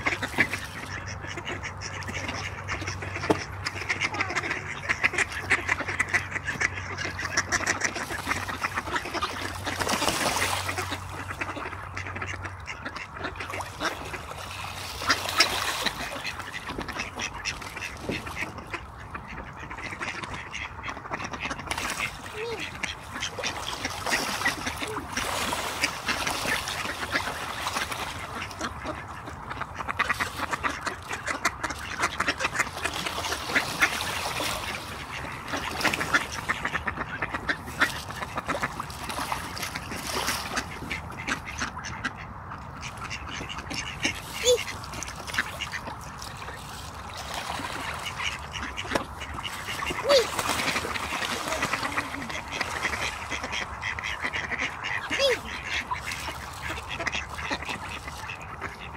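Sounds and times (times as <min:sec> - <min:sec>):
ducks quacking: 0:00.0 - 0:58.9
water splashing: 0:00.0 - 0:58.9.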